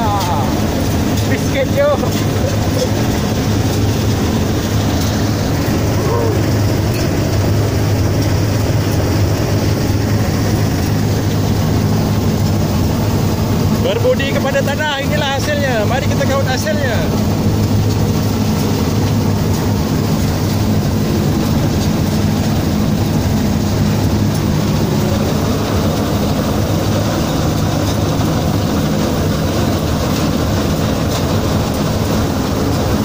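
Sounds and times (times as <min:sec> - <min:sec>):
combine harvester engine drone: 0:00.0 - 0:33.0.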